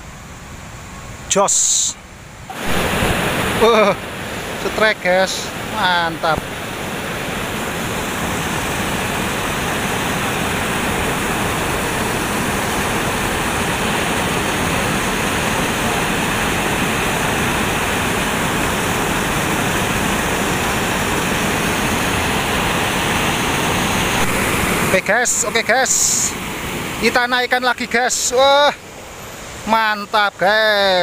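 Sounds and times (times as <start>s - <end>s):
river water rushing over weir: 0.2s - 31.0s.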